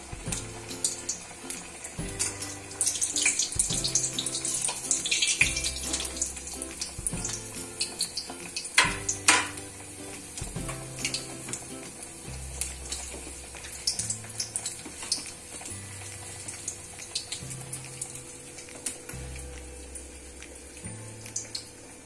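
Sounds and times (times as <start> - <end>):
deep-frying crackling sizzle: 0.0 - 22.0
ukulele background music: 0.0 - 22.0.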